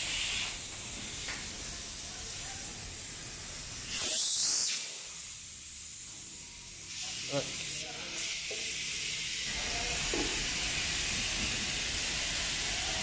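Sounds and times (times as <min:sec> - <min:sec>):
compressed air hissing from nozzle: 0:00.0 - 0:13.0.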